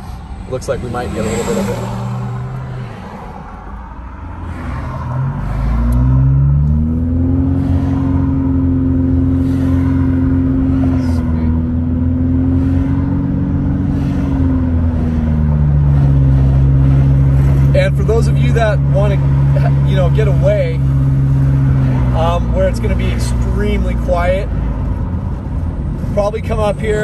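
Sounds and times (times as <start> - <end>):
car engine from inside cabin: 0.0 - 27.0
low road rumble: 0.0 - 27.0.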